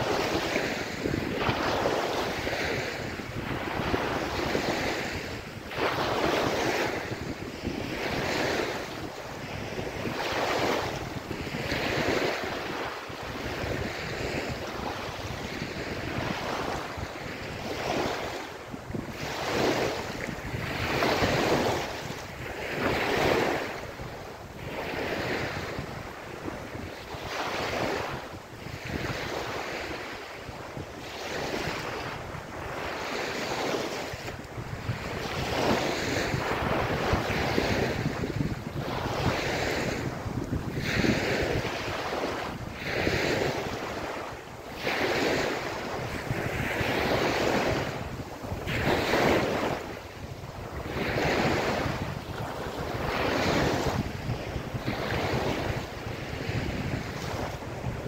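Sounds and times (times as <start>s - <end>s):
small waves breaking on beach: 0.0s - 58.0s.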